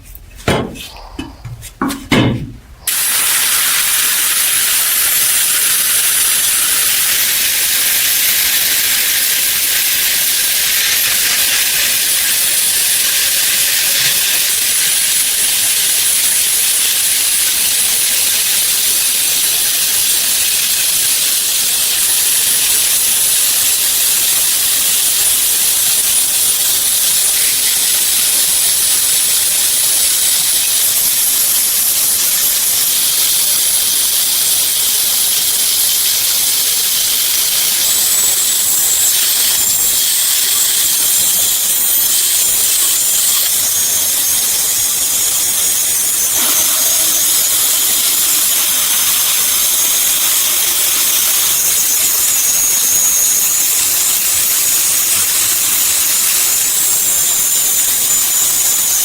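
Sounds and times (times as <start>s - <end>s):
compressed air hissing: 0.0s - 51.9s.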